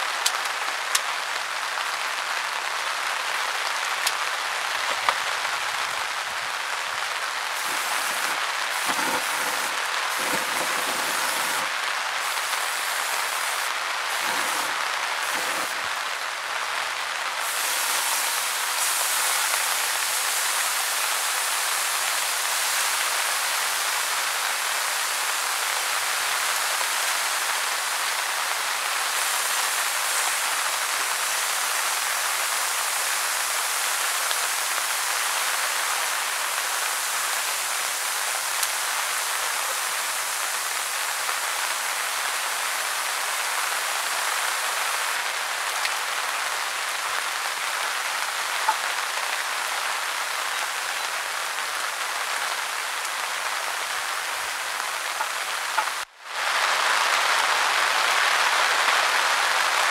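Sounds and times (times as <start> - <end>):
louder raindrop: 0.0 - 59.9
rain falling steadily: 0.0 - 59.9.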